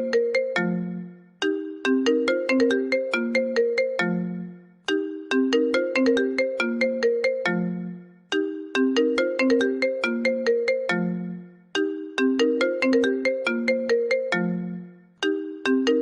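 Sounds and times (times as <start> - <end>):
phone ringtone melody: 0.0 - 16.0.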